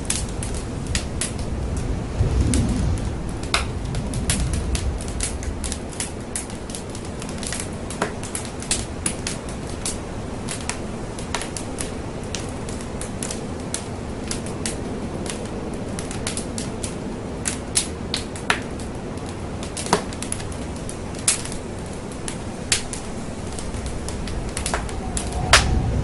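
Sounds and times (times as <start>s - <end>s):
hiss of flames: 0.0s - 26.0s
wood fire crackling and popping: 0.0s - 26.0s.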